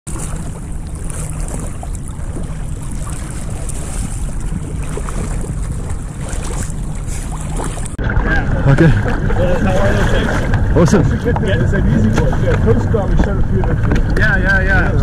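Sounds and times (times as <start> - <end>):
water sloshing and lapping: 0.0 - 15.0
wind buffeting microphone: 0.1 - 15.0.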